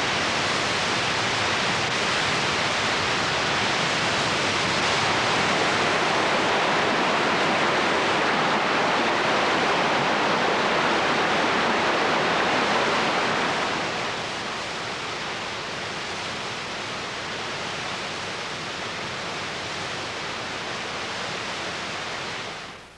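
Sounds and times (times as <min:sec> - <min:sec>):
waterfall rushing: 0:00.0 - 0:19.4.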